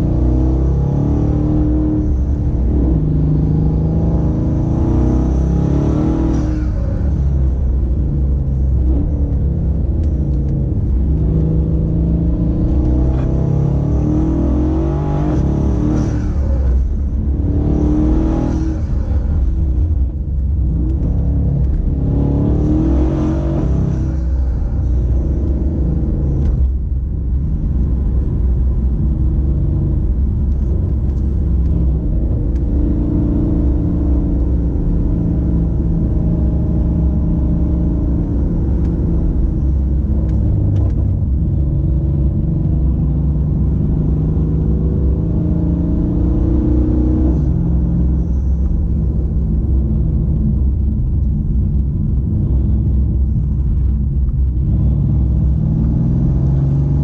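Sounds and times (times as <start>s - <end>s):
car engine rumble from inside cabin: 0.0s - 57.0s.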